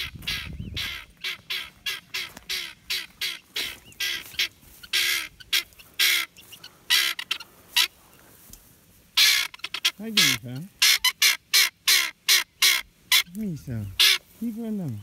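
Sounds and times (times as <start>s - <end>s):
guinea fowl calling: 0.0s - 8.5s, 9.1s - 14.5s.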